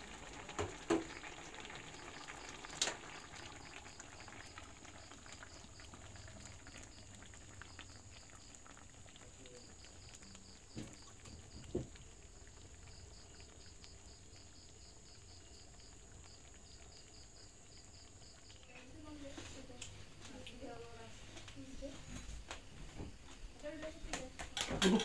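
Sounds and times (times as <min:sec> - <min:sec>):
insects chirping: 0:00.1 - 0:25.0.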